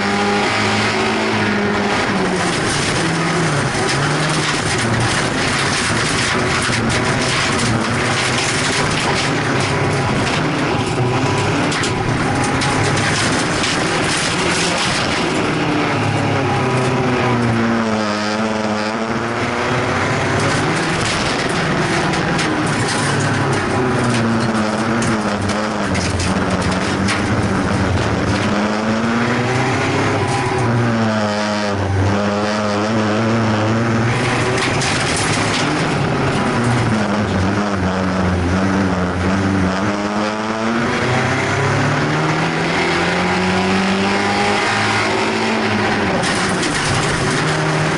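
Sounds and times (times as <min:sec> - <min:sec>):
car engine revving hard: 0:00.0 - 0:47.9.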